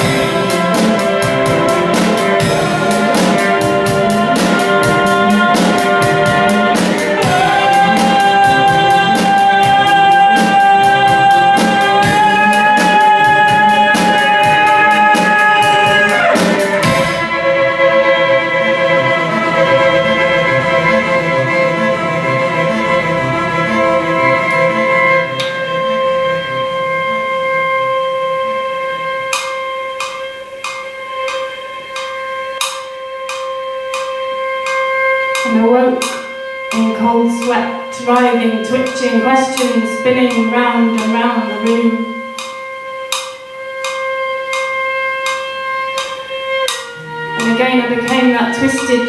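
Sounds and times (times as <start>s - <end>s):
instrumental band music: 0.0s - 49.0s
long sliding held note: 0.0s - 49.0s.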